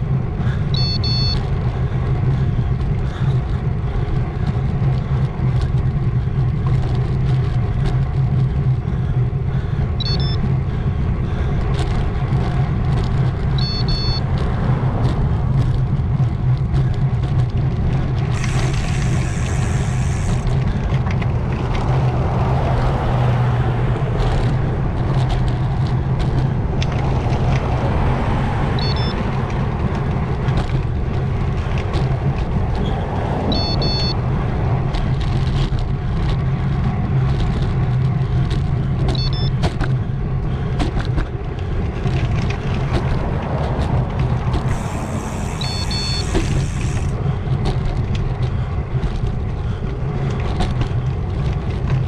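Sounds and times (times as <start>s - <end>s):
tyres humming on road: 0.0s - 52.0s
wind: 0.0s - 52.0s
nearby cars passing: 6.4s - 52.0s.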